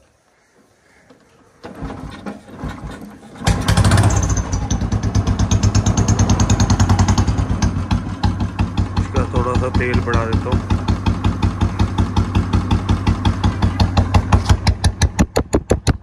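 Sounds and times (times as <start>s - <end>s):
motorcycle engine cranking and idling: 0.6s - 16.0s.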